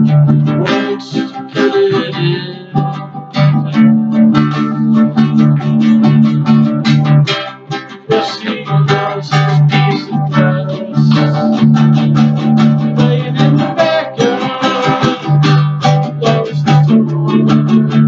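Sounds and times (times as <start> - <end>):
guitar strumming: 0.0 - 18.0.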